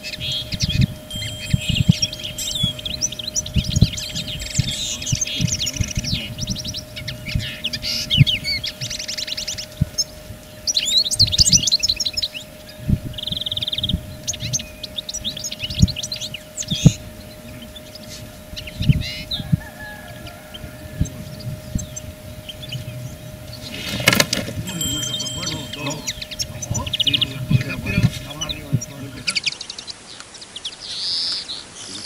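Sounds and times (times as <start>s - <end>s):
songbirds singing and twittering: 0.0s - 32.0s.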